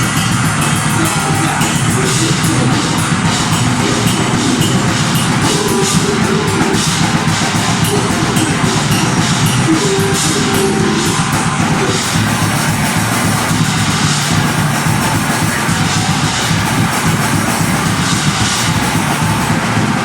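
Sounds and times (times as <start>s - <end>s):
distorted guitars: 0.0s - 20.0s
fast drums: 0.0s - 20.0s.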